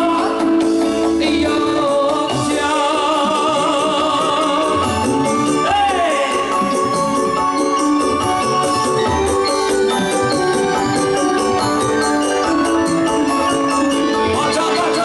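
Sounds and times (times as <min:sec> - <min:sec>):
drums: 0:00.0 - 0:15.0
electric guitar: 0:00.0 - 0:15.0
hand percussion: 0:00.0 - 0:15.0
keyboard: 0:00.0 - 0:15.0.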